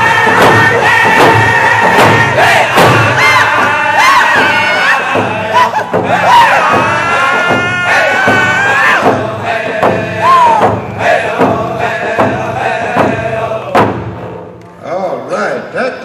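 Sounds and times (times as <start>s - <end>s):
group of voices chanting: 0.0s - 13.9s
hand drum beat: 0.0s - 14.5s.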